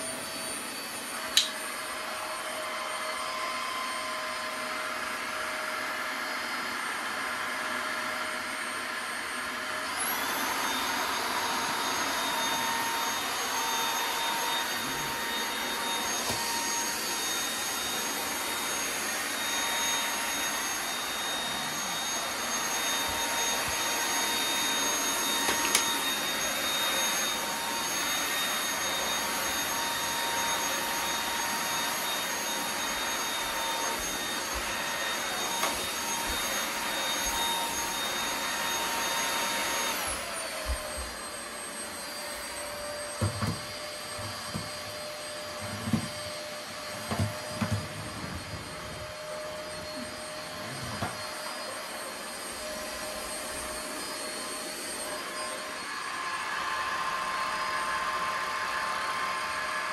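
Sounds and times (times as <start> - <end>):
stick vacuum motor whine: 0.0 - 59.9.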